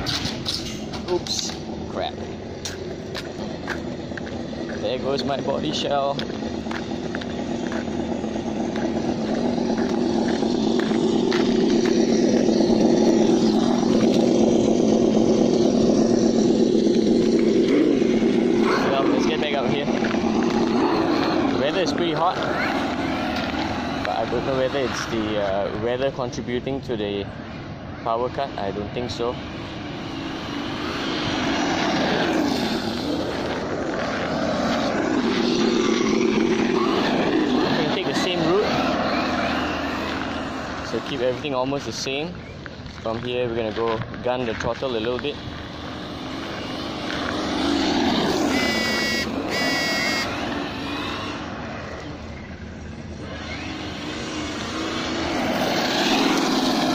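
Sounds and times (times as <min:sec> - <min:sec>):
simulated engine sound through speaker: 0:00.9 - 0:56.9.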